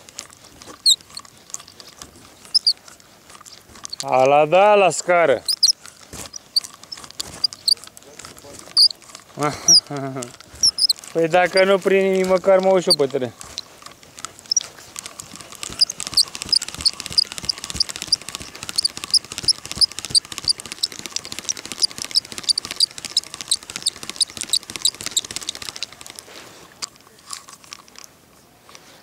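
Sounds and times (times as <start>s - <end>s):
fishing reel squeaky ticking: 0.0s - 26.3s
scattered clicks: 0.0s - 28.2s.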